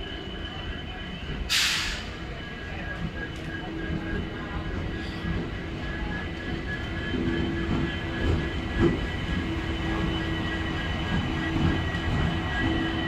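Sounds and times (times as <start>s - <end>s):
diesel locomotive hum: 0.0s - 13.0s
train rumbling past: 0.0s - 13.0s.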